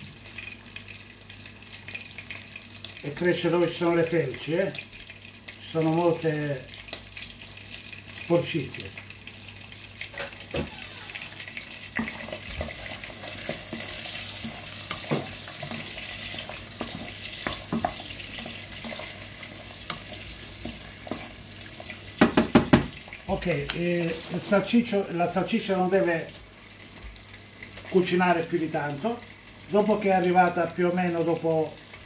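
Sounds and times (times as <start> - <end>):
frying in oil sizzling: 0.0 - 32.0.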